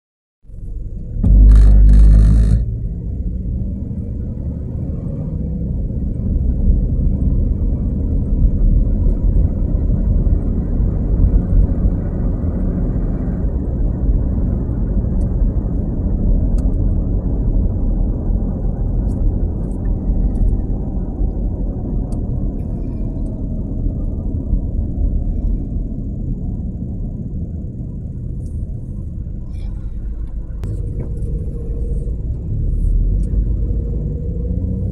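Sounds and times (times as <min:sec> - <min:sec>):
car cabin road rumble: 0:00.5 - 0:34.9.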